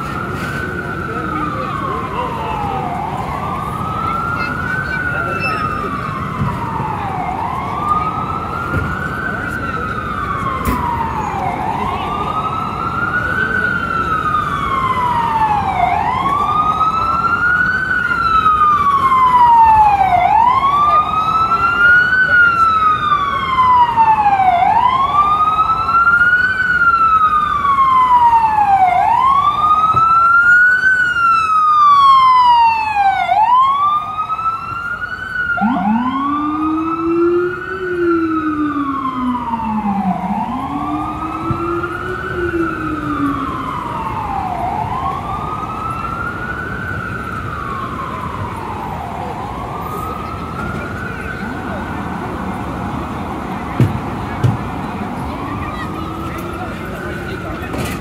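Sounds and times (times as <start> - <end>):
lower-pitched siren: 0.0 - 58.0
siren wailing: 0.0 - 58.0
street traffic noise: 0.0 - 58.0.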